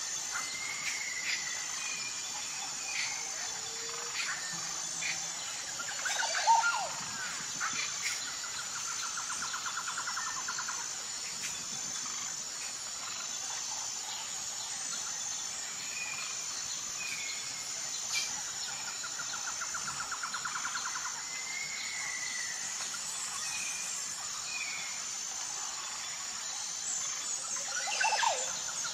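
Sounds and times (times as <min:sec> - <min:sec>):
high insect buzz: 0:00.0 - 0:28.9.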